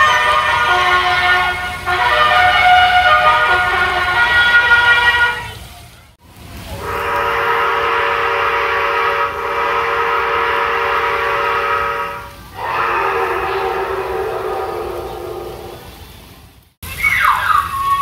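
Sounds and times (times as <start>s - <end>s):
horn-like warning chord: 0.0s - 5.5s, 6.8s - 15.9s.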